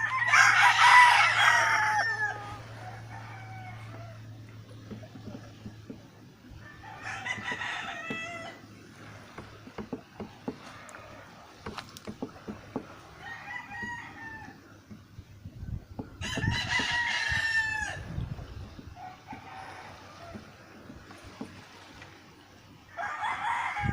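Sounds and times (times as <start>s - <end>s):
drawn-out animal calls: 0.0s - 21.5s.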